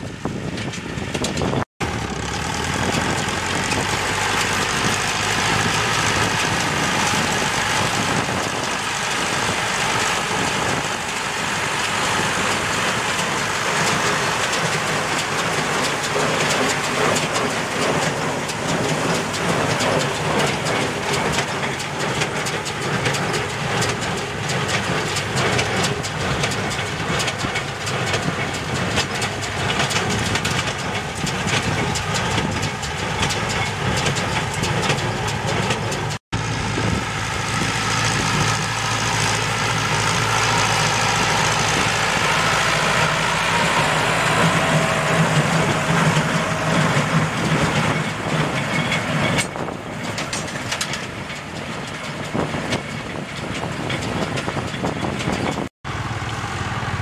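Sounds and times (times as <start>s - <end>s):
tractor engine running: 0.0s - 57.0s
baler clattering: 2.8s - 36.2s, 39.1s - 55.7s.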